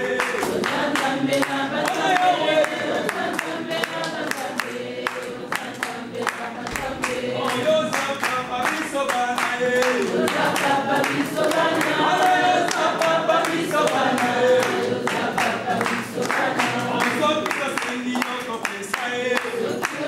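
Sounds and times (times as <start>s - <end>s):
group of people singing: 0.0s - 20.0s
rhythmic handclapping: 0.0s - 20.0s.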